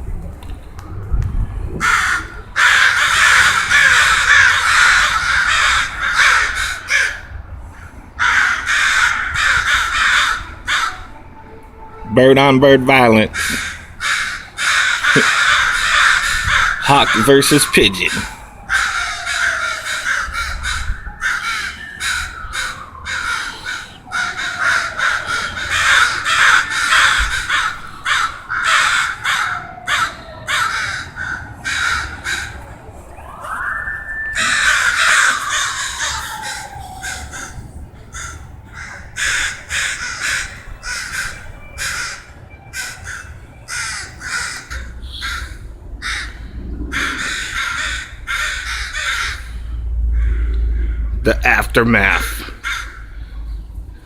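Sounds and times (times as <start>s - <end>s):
harsh caw-like bird calls: 1.8s - 11.0s, 13.4s - 17.5s, 18.2s - 32.6s, 33.2s - 51.2s, 52.5s - 53.6s.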